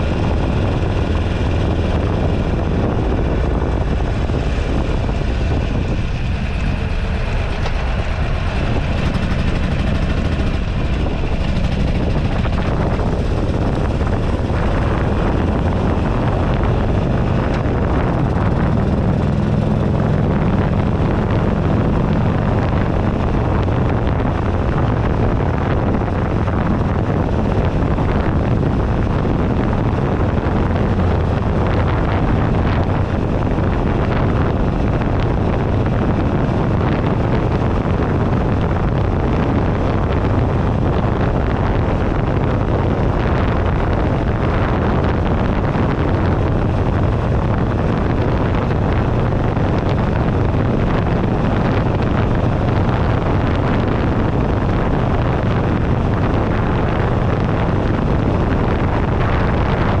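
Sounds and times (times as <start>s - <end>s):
motorcycle engine running: 0.0s - 60.0s
wind noise on microphone: 0.0s - 60.0s.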